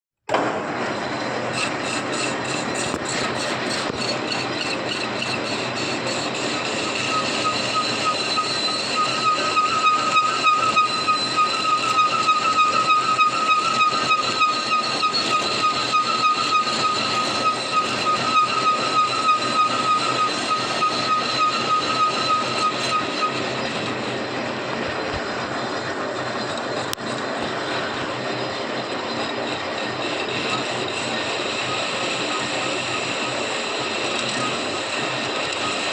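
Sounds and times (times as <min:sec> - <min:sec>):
machinery running: 0:00.3 - 0:35.9
high wavering whine: 0:03.8 - 0:35.9.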